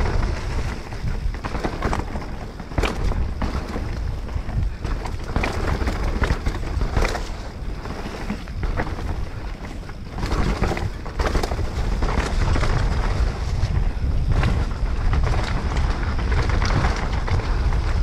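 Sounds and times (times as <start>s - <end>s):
bike rattling and knocking: 0.0s - 18.0s
wind buffeting microphone: 0.0s - 18.0s.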